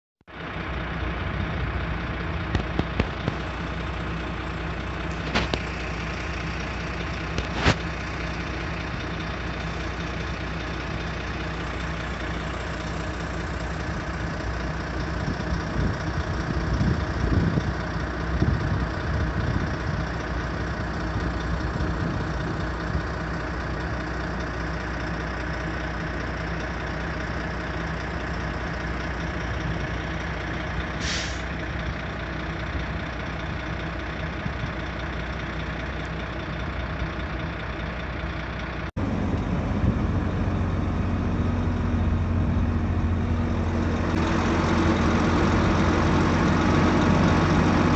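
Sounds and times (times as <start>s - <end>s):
engine running: 0.3s - 47.9s.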